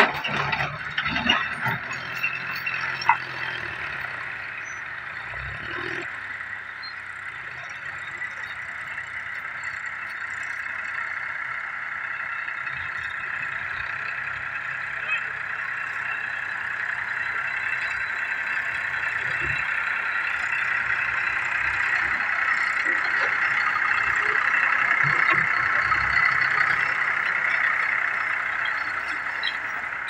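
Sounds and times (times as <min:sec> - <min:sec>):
tractor engine hum: 0:00.0 - 0:30.0.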